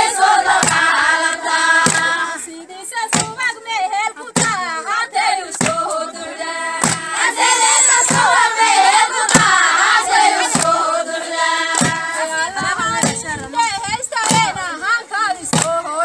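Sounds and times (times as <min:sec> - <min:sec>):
women singing in chorus: 0:00.0 - 0:16.0.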